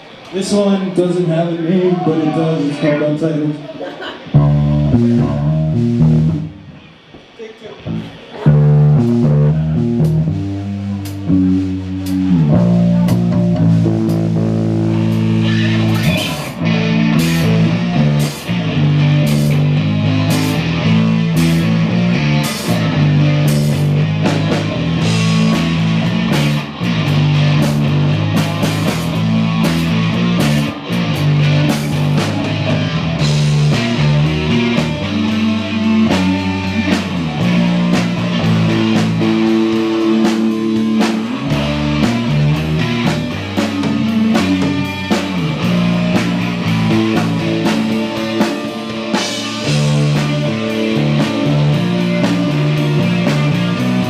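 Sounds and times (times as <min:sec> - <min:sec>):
rock band playing live: 0:04.1 - 0:07.1, 0:07.8 - 0:54.0.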